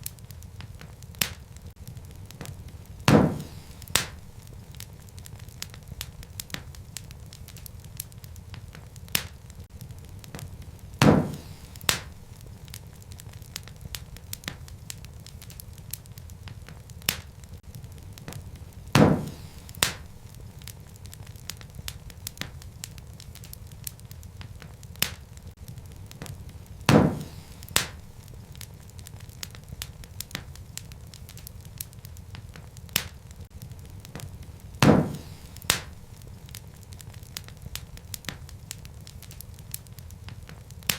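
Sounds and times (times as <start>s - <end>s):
burning logs popping: 0.0s - 40.9s
low fire rumble: 0.0s - 40.9s
wood fire crackling: 0.0s - 40.9s.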